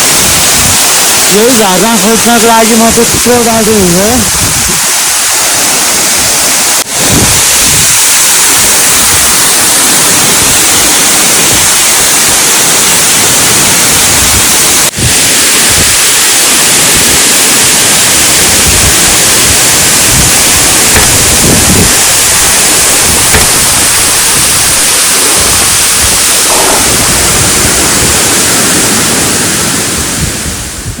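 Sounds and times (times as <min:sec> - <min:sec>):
small waterfall hissing: 0:00.0 - 0:31.0.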